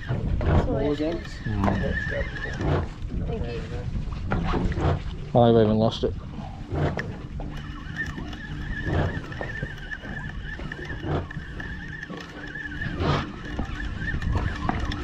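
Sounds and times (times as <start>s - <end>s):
fishing reel whining: 0.0s - 3.6s, 6.3s - 15.0s.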